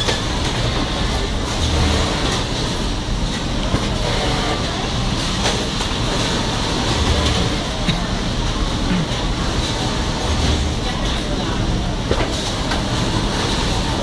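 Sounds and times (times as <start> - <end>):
factory machinery din: 0.0 - 14.0.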